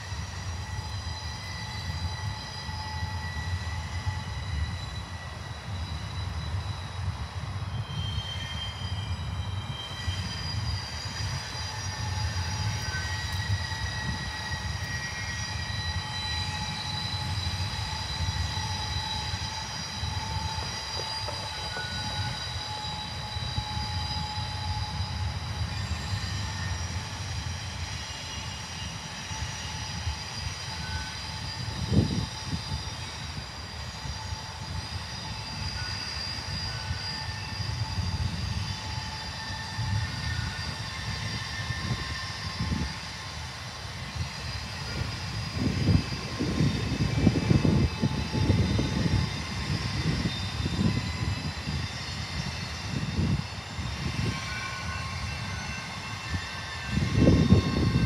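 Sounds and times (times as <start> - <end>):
freight train rumbling: 0.0 - 58.0
wheel squeals: 0.0 - 58.0.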